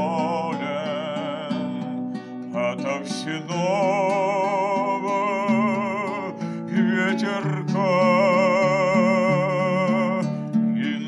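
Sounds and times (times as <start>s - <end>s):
acoustic guitar picking: 0.0s - 11.0s
man singing with vibrato: 0.0s - 11.0s.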